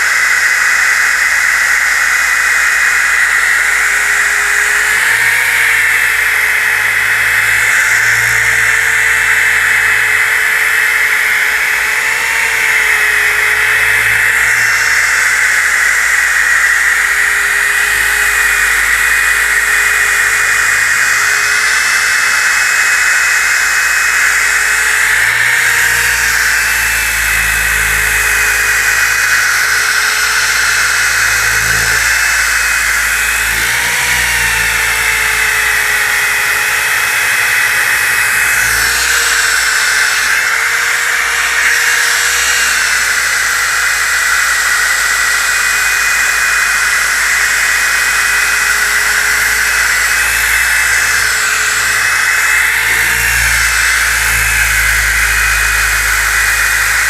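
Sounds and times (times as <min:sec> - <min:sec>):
disc sander sanding wood: 0:00.0 - 0:57.0.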